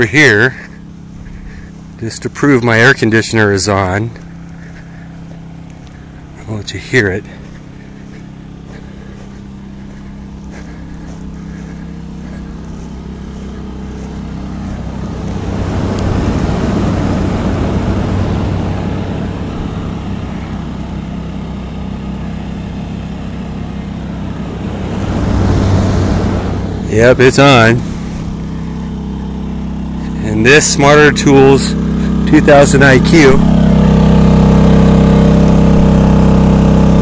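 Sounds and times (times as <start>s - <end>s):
air conditioner fan blowing: 0.0s - 37.0s.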